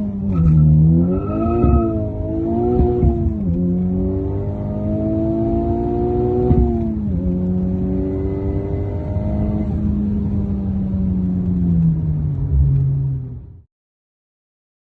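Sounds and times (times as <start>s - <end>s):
car engine and exhaust from inside: 0.0s - 13.6s.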